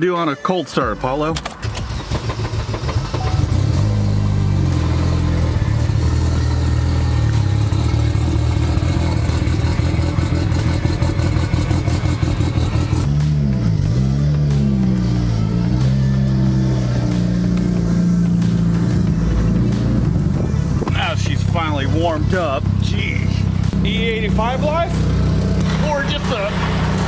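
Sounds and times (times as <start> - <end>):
car engine starting and idling: 0.8 - 27.0.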